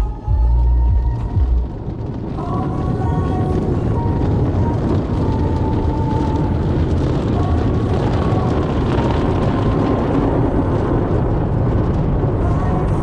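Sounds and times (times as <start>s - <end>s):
car wash machinery rumble: 0.0s - 13.0s.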